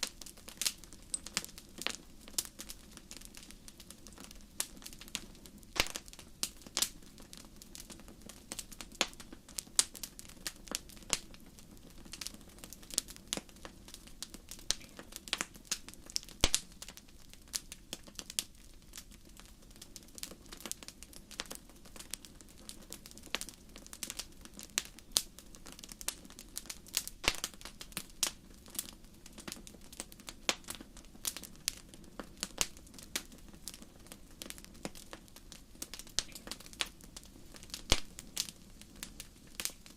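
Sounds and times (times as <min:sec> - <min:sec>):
fire snaps and pops: 0:00.0 - 0:39.9
soft hiss of fire: 0:00.0 - 0:39.9
wood fire crackling: 0:00.0 - 0:39.9.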